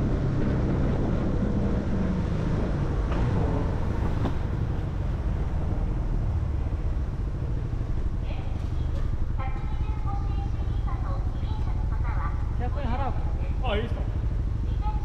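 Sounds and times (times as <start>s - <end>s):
motorcycle engine hum: 0.0s - 15.0s
road rumble: 0.0s - 15.0s.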